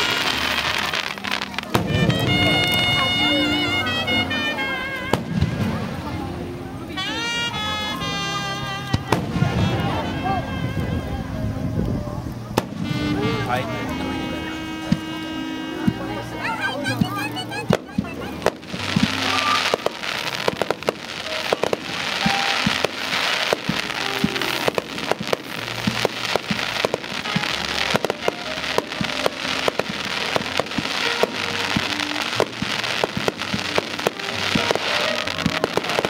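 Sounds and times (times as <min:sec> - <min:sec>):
fireworks bursting with crackling: 0:00.0 - 0:36.0
jazz music: 0:00.0 - 0:36.0.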